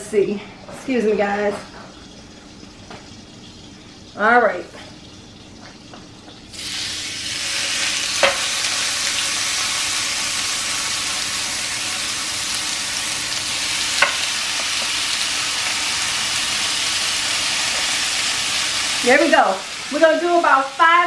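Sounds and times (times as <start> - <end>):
steaks sizzling in grill pan: 1.9 - 21.0.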